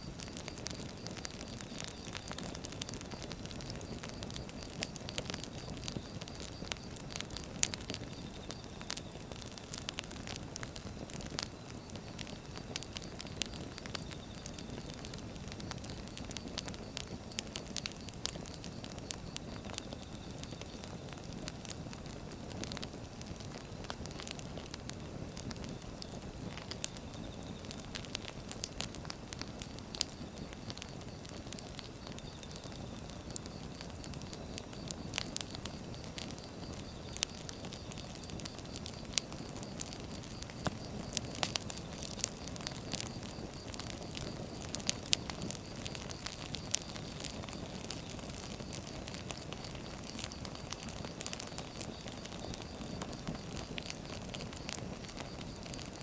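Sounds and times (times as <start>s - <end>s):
burning logs popping and crackling: 0.0s - 56.0s
wood fire flames rushing: 0.0s - 56.0s.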